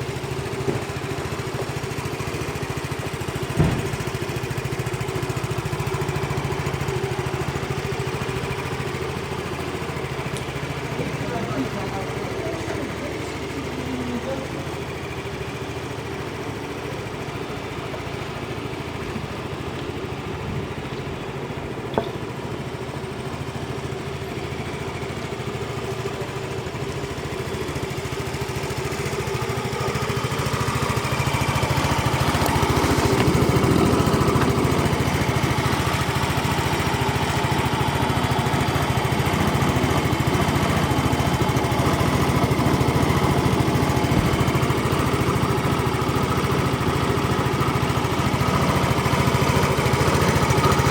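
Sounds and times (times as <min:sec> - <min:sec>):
scooter engine idling: 0:00.0 - 0:50.9.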